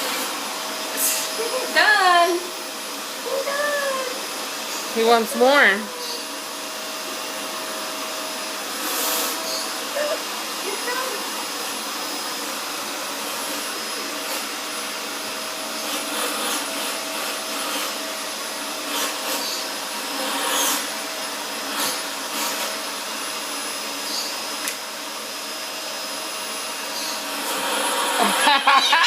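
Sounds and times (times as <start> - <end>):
vacuum cleaner whining: 0.0 - 29.0.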